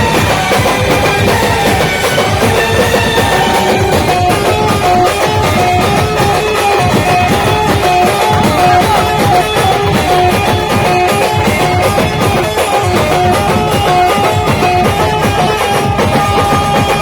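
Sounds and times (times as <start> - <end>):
fast busy drumming: 0.0 - 17.0
live band lead melody: 0.0 - 17.0.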